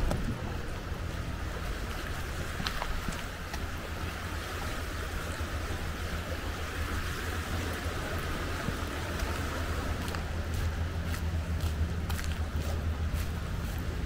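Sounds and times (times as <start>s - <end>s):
water washing: 0.0s - 14.0s
wind rumbling on microphone: 0.0s - 14.0s.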